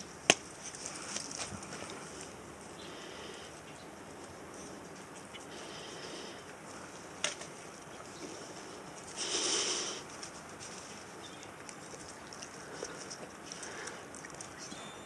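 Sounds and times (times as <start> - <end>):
rustling: 0.0 - 14.7
dogs sniffing: 0.6 - 14.7.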